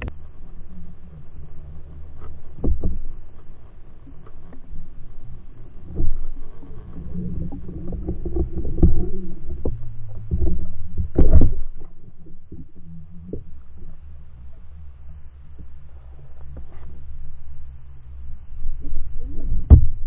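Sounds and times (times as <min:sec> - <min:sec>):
underwater knocks and bumps: 0:00.0 - 0:17.7, 0:18.4 - 0:20.0
muffled underwater rumble: 0:00.0 - 0:20.0.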